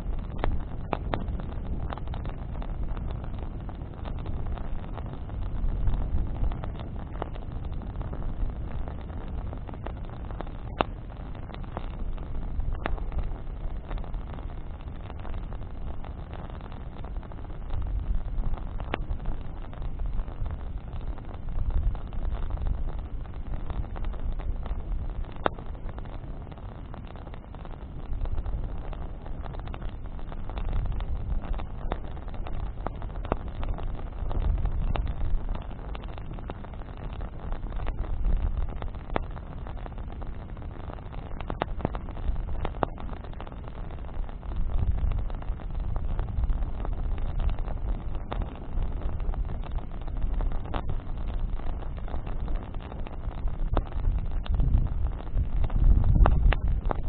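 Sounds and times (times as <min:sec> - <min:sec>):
campfire crackling: 0:00.0 - 0:57.0
low rumble: 0:00.0 - 0:57.0
sharp pops: 0:08.8 - 0:57.0.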